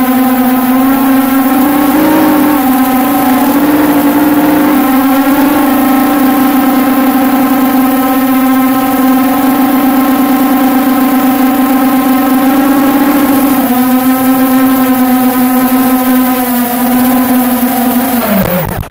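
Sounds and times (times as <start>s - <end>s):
quadcopter propellers buzzing: 0.0s - 18.9s.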